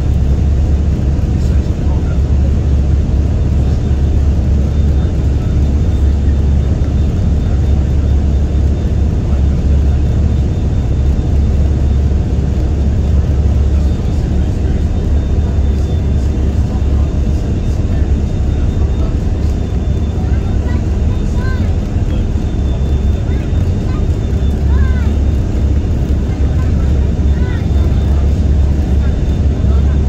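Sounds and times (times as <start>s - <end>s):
hovercraft engines droning: 0.0s - 30.0s.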